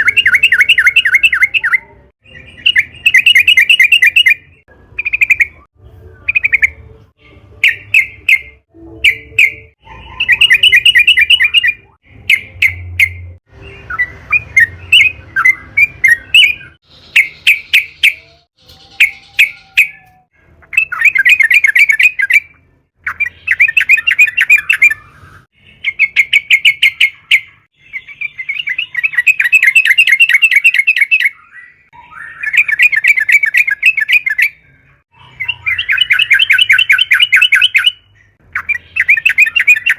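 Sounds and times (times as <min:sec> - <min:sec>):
bird singing bubbling phrases: 0:00.0 - 0:39.9.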